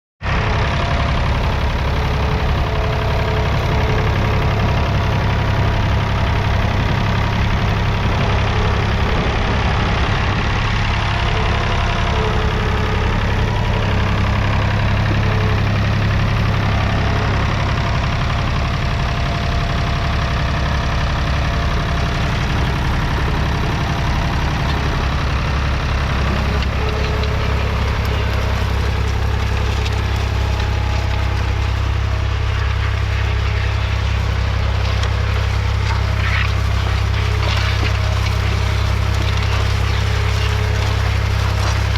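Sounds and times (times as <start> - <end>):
diesel engine running steadily: 0.2 - 41.9.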